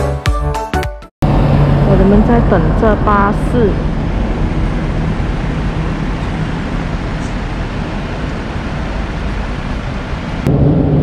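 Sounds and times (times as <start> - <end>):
road traffic rushing: 1.2 - 11.0.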